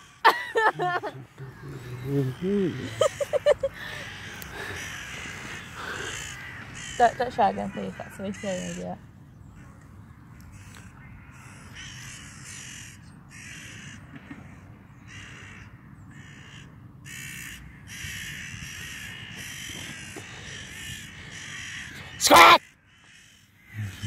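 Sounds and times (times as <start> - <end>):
crows cawing: 0.0 - 24.0.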